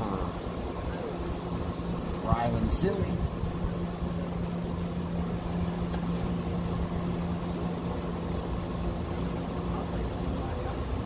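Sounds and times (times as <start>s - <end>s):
constant low drone: 0.0s - 11.0s
idling vehicles: 0.0s - 11.0s
street noise: 0.0s - 11.0s.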